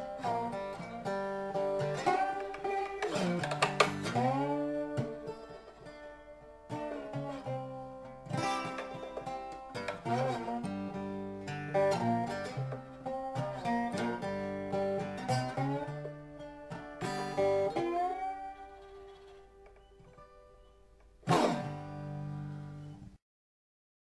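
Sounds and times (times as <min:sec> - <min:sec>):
resonator slide guitar playing: 0:00.0 - 0:23.0.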